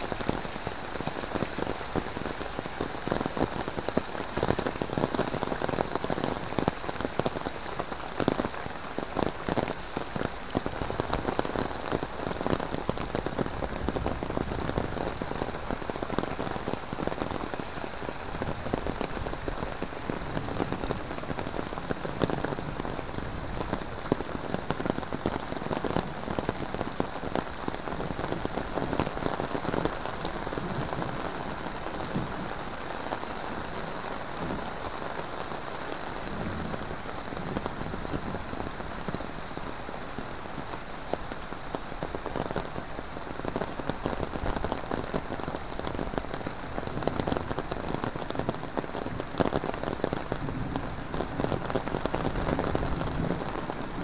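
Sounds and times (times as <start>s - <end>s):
heavy rain falling: 0.0s - 54.0s
raindrops pattering on umbrella: 0.0s - 54.0s.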